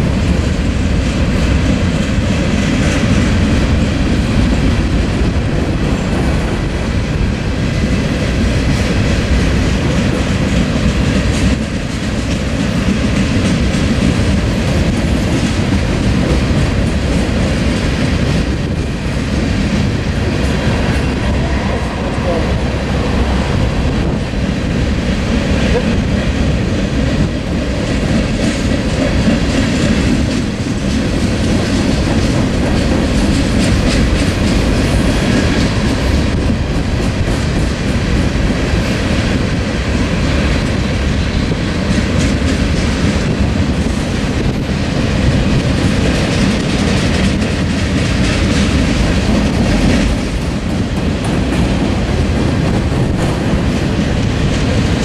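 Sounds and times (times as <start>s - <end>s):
train rumble: 0.0s - 55.0s
train wheels clicking over rail joints: 0.0s - 55.0s.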